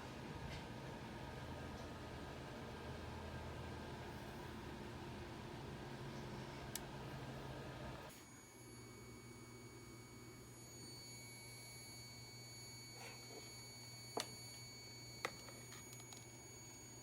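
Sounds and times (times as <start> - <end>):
electrical hum with high whine: 0.0 - 17.0.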